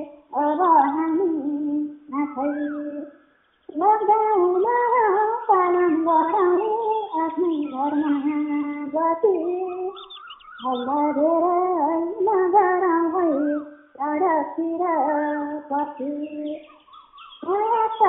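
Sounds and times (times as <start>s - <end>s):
woman singing folk song: 0.0s - 16.7s, 17.4s - 18.0s.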